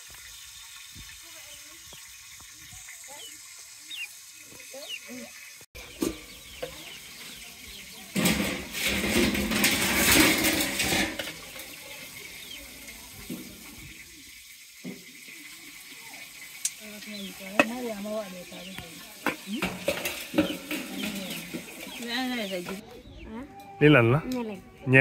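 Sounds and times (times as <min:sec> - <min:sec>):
faint voices: 0:01.0 - 0:25.0.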